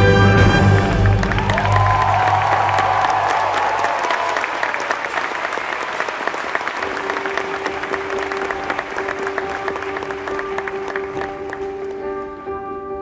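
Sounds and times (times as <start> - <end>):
audience applauding: 0.2 - 12.4.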